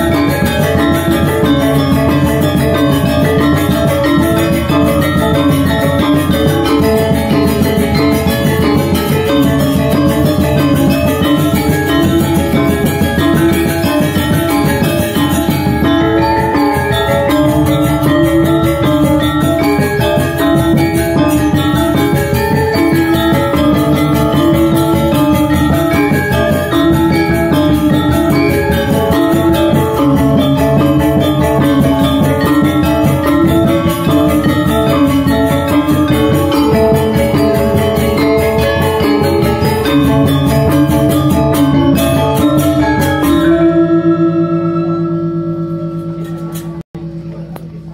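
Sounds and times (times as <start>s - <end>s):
drums: 0.0s - 47.9s
metallophones ringing: 0.0s - 47.9s
small gong: 0.0s - 47.9s.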